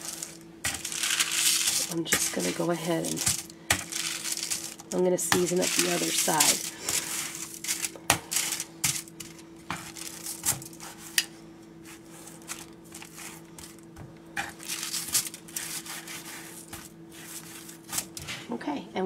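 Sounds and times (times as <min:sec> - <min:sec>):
foil crinkling: 0:00.0 - 0:11.2, 0:11.9 - 0:13.8, 0:14.4 - 0:18.2.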